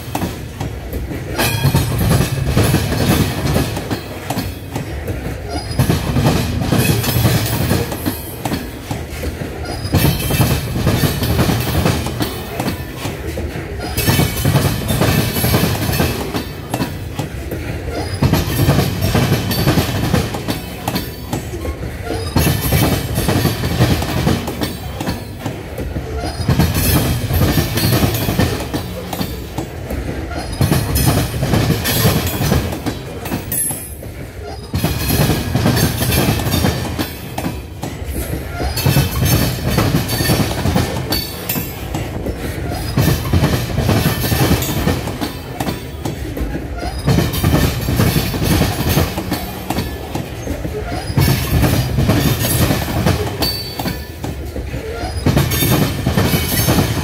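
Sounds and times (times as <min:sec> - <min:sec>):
rumble of freight cars: 0:00.0 - 0:57.0
train wheels clacking over rails: 0:00.0 - 0:57.0.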